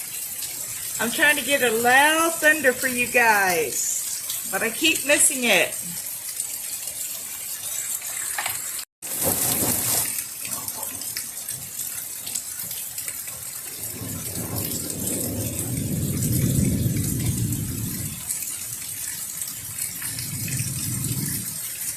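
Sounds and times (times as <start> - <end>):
heavy rain falling: 0.0 - 21.9.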